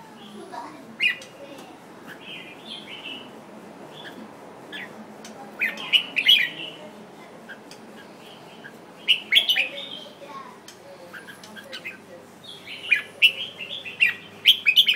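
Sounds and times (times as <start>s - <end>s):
bird singing warbling phrases: 0.2s - 14.9s.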